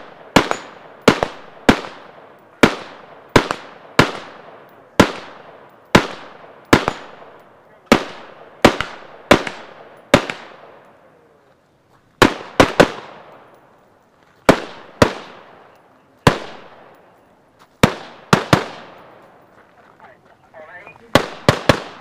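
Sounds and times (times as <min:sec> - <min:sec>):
rifle shots with echo: 0:00.0 - 0:11.4, 0:12.2 - 0:13.8, 0:14.4 - 0:17.2, 0:17.8 - 0:19.6, 0:20.7 - 0:22.0.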